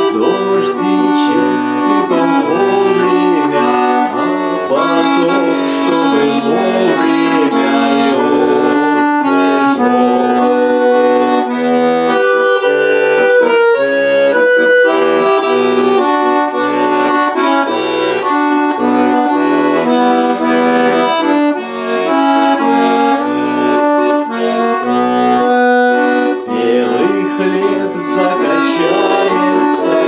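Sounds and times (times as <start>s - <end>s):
accordion playing: 0.0s - 30.0s.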